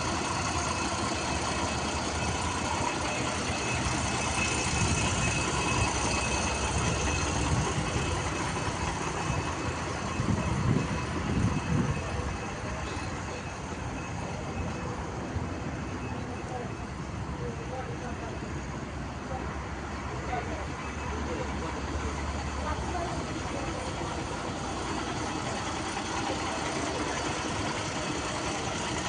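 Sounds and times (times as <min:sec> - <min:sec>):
truck diesel engine running: 0:00.0 - 0:29.0.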